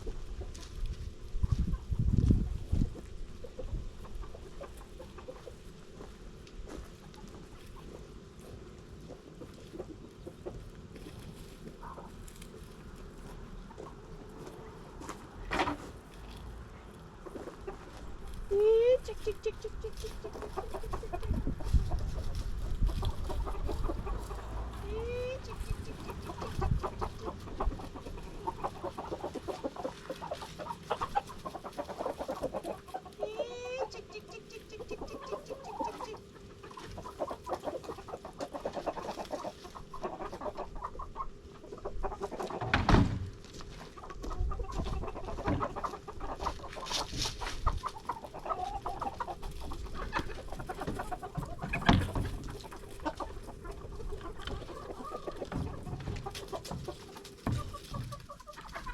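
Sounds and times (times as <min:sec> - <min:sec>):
hens clucking: 0:00.0 - 0:58.9.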